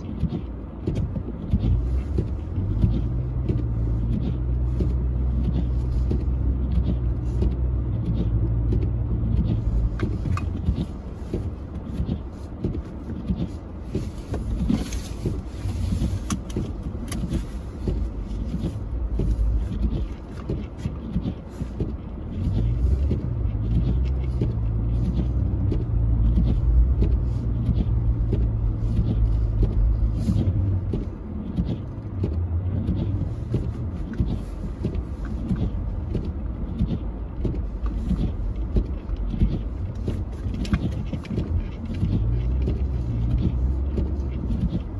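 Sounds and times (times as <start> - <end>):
car engine running hard: 0.0 - 44.9.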